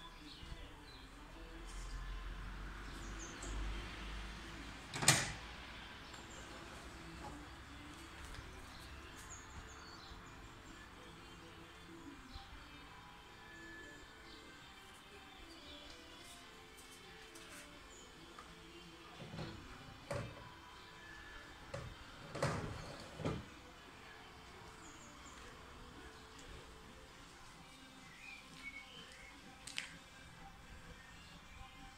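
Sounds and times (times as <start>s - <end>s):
faint background music: 0.0s - 31.9s.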